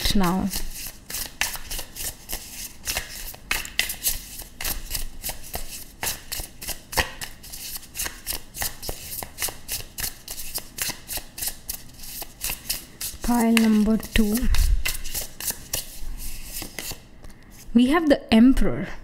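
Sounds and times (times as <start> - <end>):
cards being shuffled: 0.0 - 17.1.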